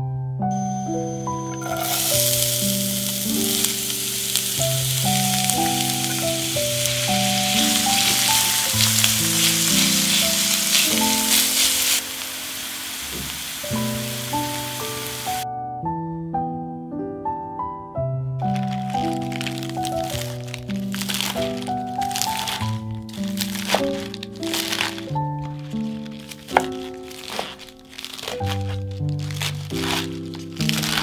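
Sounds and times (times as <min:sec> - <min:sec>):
onions sizzling in oil: 0:01.5 - 0:15.4, 0:18.6 - 0:31.0.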